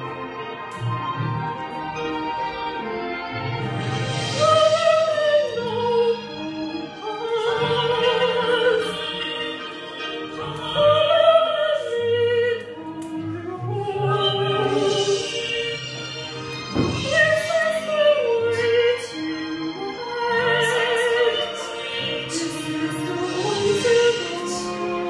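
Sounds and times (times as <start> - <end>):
instrumental backing music: 0.0 - 25.0
woman singing with vibrato: 3.9 - 25.0.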